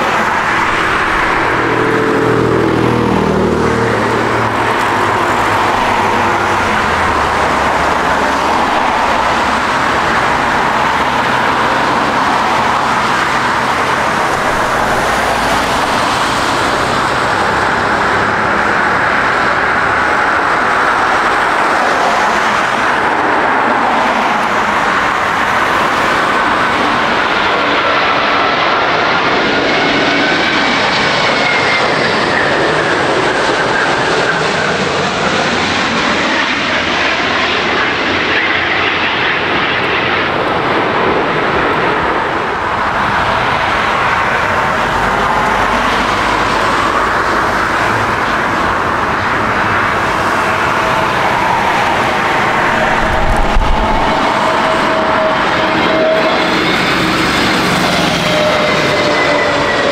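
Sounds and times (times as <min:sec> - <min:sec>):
whining tone: 0:00.0 - 0:40.7, 0:42.0 - 0:59.9
jet engines roaring: 0:00.0 - 0:59.9.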